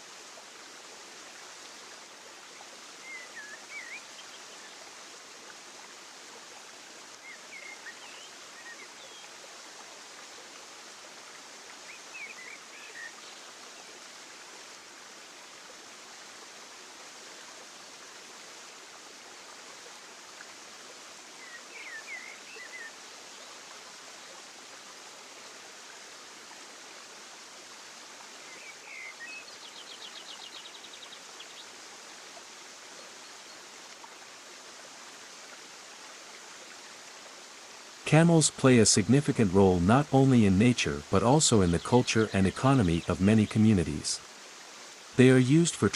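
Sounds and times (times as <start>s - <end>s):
steady rushing water: 0.0s - 45.9s.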